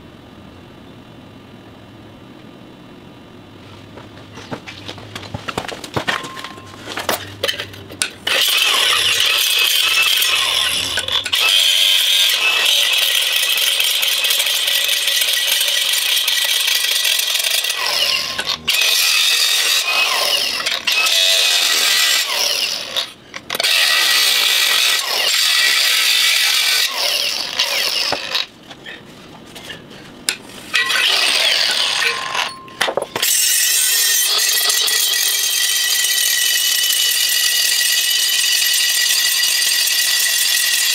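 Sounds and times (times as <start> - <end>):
angle grinder grinding steel: 6.2 - 29.0, 29.6 - 40.9.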